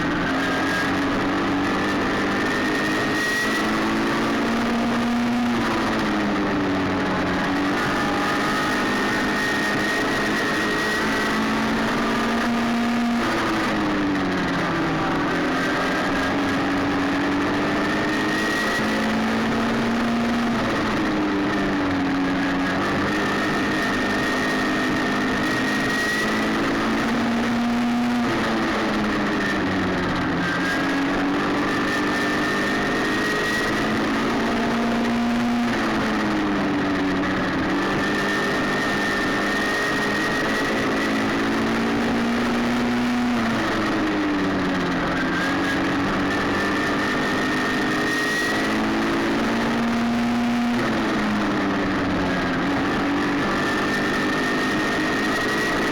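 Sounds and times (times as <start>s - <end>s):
race car engine racing: 0.0s - 55.9s.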